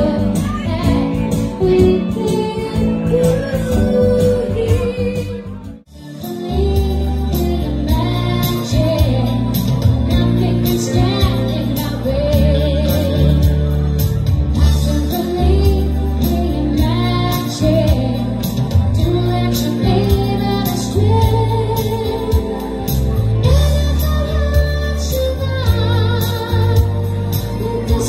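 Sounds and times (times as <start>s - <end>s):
woman singing: 0.0s - 28.0s.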